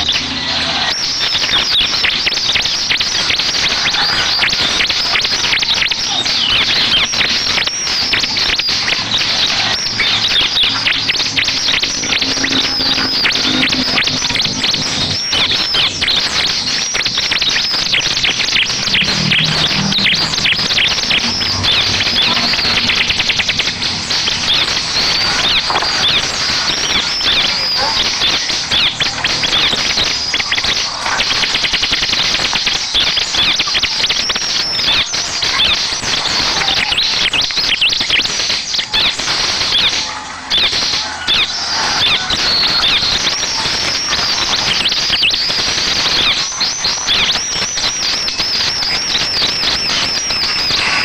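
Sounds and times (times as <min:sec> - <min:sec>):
bird chirps and trills: 0:00.0 - 0:51.0.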